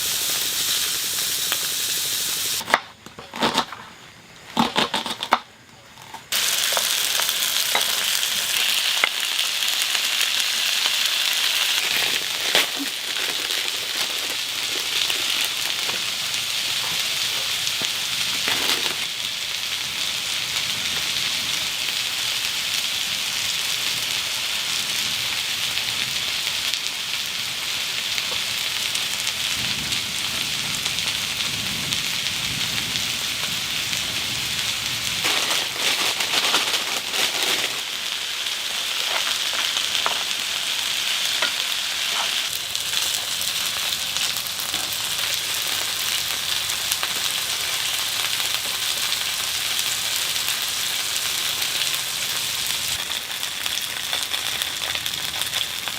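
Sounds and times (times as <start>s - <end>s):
food sizzling in a pan: 0.0s - 2.7s, 6.3s - 55.9s.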